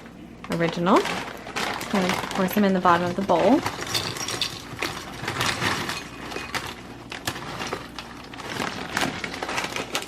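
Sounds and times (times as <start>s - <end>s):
chips pouring into a bowl: 0.6s - 10.0s.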